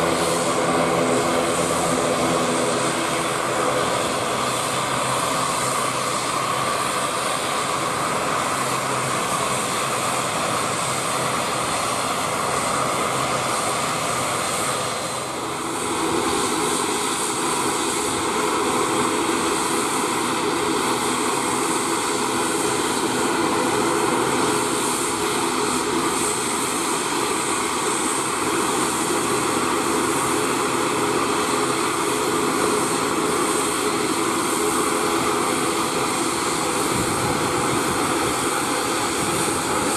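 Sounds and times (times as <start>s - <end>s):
turboprop engines propeller drone: 0.0s - 39.9s.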